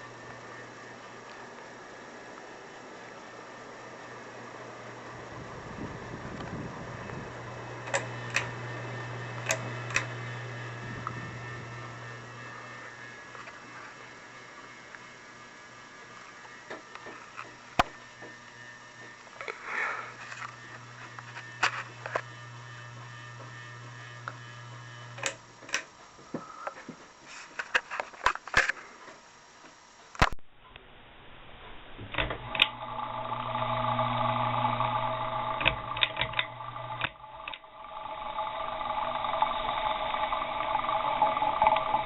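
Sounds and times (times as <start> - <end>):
ceiling fan motor hum: 0.0 - 42.0
high steady whine: 0.0 - 42.0.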